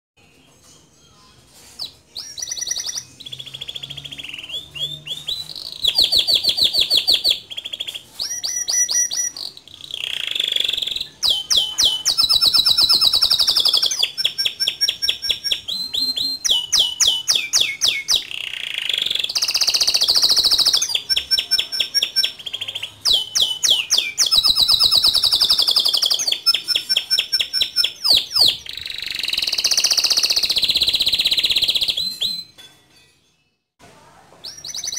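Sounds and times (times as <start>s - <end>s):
canary singing trills: 0.2s - 32.7s, 34.4s - 34.9s.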